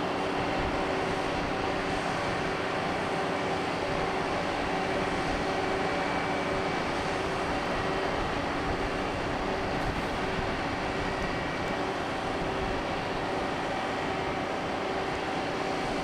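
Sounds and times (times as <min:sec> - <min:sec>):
large ship engines droning: 0:00.0 - 0:16.0.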